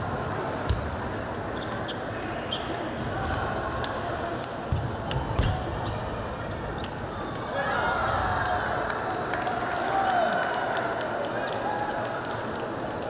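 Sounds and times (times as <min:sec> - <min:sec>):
murmur of voices in hall: 0:00.0 - 0:13.0.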